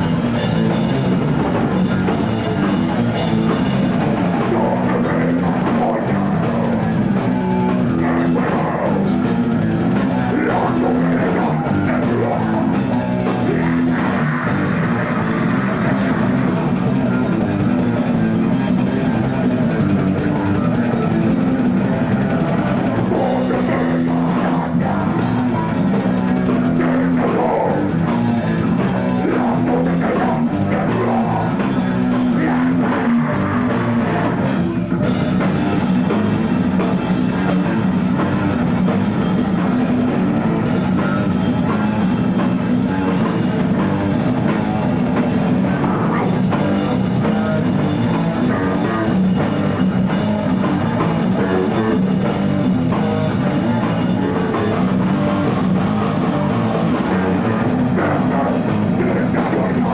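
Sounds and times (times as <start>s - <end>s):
distorted electric guitars: 0.0s - 59.9s
pounding drum kit: 0.0s - 59.9s.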